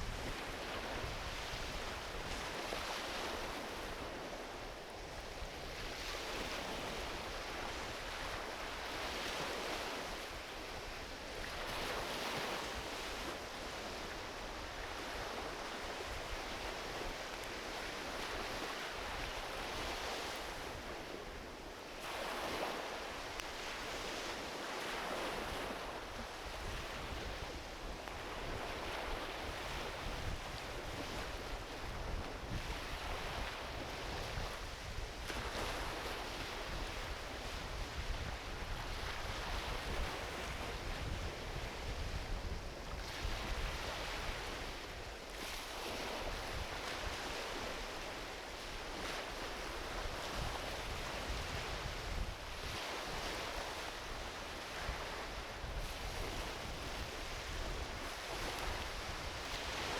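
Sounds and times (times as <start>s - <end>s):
small waves washing onto beach: 0.0s - 59.9s.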